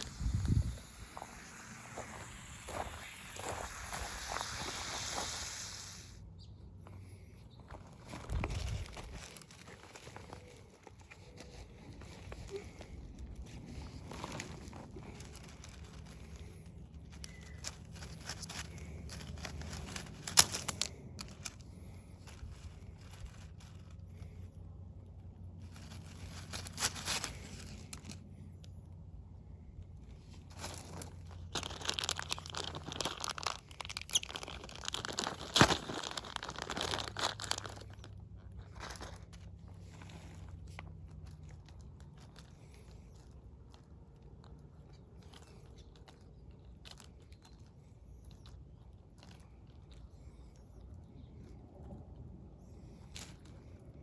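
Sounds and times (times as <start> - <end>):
plastic tubing rustling and crinkling: 0.0 - 6.0, 6.9 - 29.0, 29.6 - 54.0.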